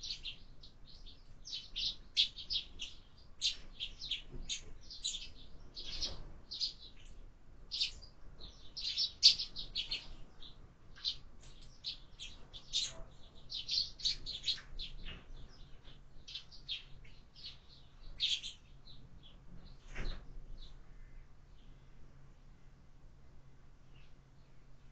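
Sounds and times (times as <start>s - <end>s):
sparrows chirping: 0.0s - 24.9s.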